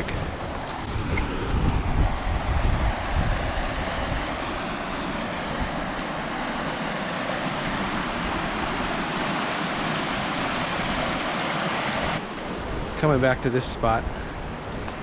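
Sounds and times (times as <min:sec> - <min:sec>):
creek water rushing over rapids: 0:00.0 - 0:15.0.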